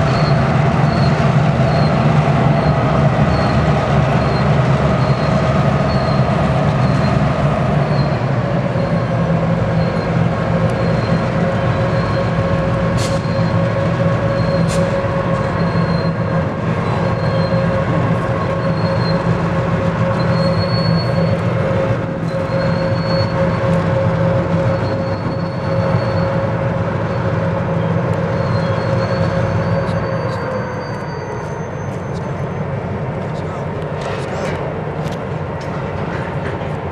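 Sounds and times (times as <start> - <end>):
rail squeal: 0.0 - 34.4
locomotive diesel engines droning: 0.0 - 36.9.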